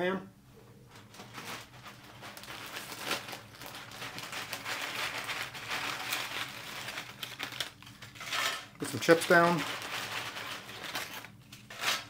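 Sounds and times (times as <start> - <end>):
packaging crinkling: 0.9 - 12.0.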